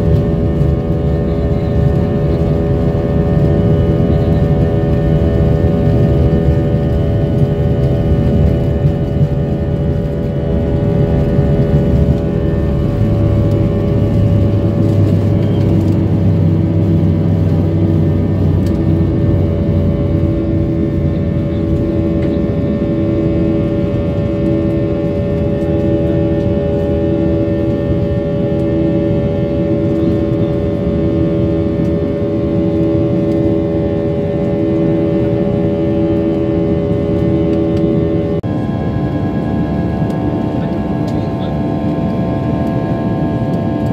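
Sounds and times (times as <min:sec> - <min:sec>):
deeper hum: 0:00.0 - 0:43.9
jet engines roaring in cabin: 0:00.0 - 0:43.9.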